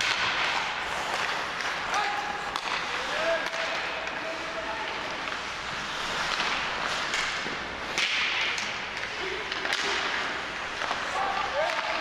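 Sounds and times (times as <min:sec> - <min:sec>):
hockey sticks cracking: 0:00.0 - 0:12.0
rink background noise: 0:00.0 - 0:12.0
skates scraping on ice: 0:00.0 - 0:12.0.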